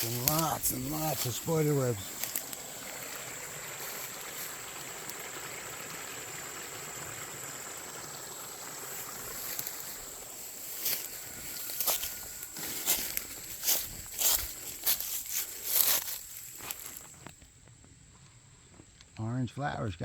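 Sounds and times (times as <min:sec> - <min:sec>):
creek water running: 0:00.0 - 0:17.3.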